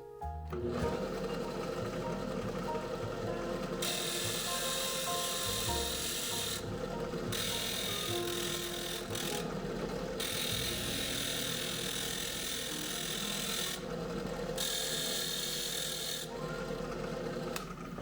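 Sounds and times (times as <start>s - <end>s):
drill press motor hum: 0.4s - 18.0s
cutter scraping steel: 2.4s - 18.0s.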